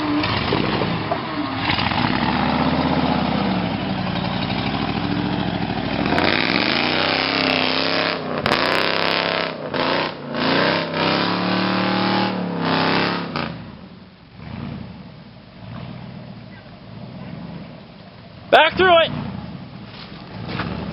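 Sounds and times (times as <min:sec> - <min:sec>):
engine revving: 0:00.0 - 0:17.8, 0:18.8 - 0:20.9.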